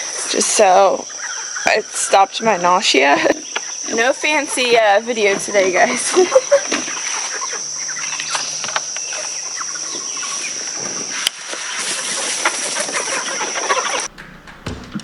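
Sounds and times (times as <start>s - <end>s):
chickens clucking: 0.0s - 15.0s
crickets chirring: 0.0s - 15.0s.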